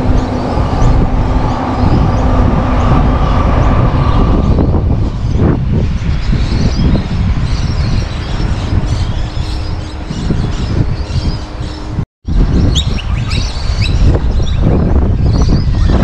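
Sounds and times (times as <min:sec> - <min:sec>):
birds chirping: 0:00.0 - 0:16.0
strong low rumble: 0:00.0 - 0:16.0.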